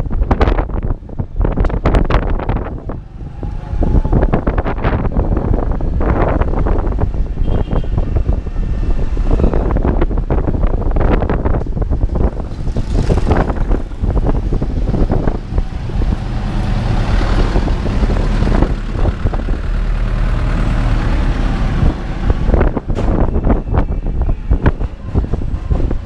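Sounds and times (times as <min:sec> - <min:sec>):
motorbike engine rumble: 0:00.0 - 0:26.0
wind buffeting microphone: 0:00.0 - 0:26.0.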